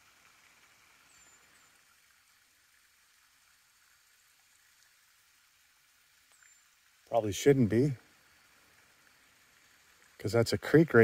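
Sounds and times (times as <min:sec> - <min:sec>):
faint hiss of forest air: 0:00.0 - 0:11.0.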